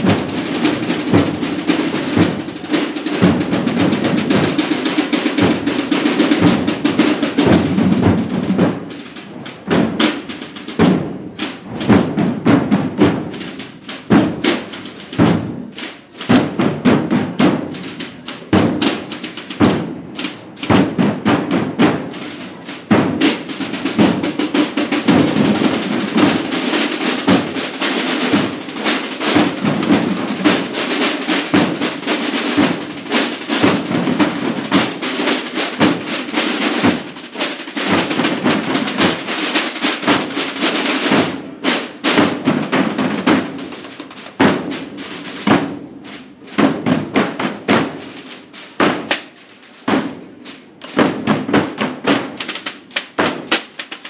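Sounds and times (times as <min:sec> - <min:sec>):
marching drums beating: 0:00.0 - 0:54.0.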